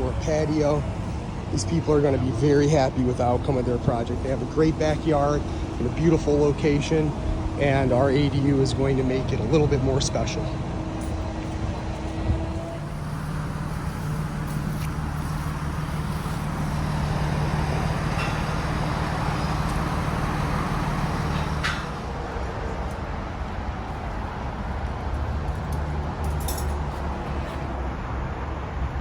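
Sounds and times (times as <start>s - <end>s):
crane engine humming: 0.0s - 29.0s.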